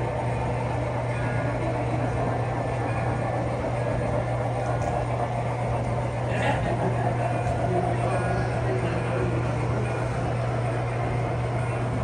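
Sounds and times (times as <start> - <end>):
model train running: 1.0 - 12.0.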